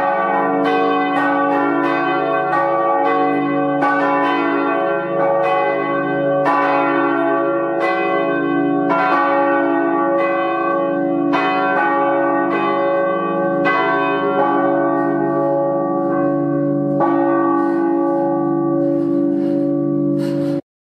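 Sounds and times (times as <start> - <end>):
church bells ringing: 0.0 - 20.6.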